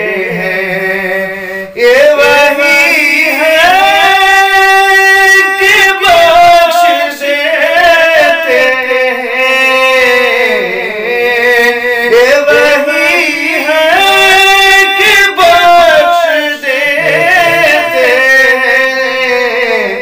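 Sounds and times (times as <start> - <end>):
solo voice singing held notes: 0.0 - 20.0.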